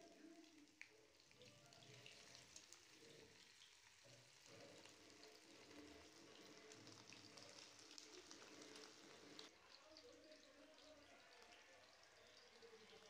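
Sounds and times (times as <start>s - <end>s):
fish frying in oil: 0.0s - 13.0s.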